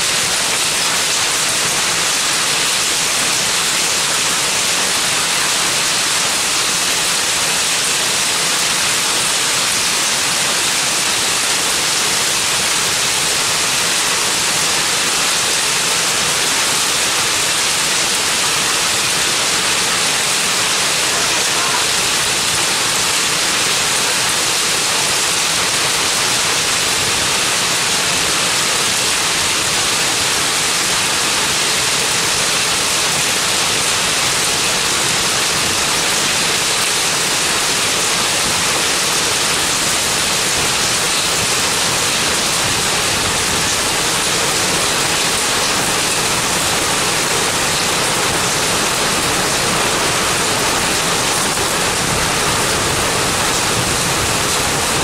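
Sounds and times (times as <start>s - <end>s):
heavy rain and hail on pavement: 0.0s - 55.0s.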